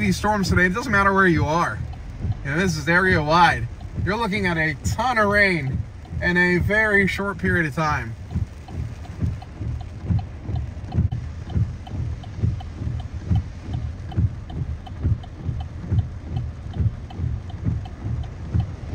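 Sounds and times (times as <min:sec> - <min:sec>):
heavy rain and runoff: 0:00.0 - 0:18.9
low thumping: 0:00.0 - 0:18.9.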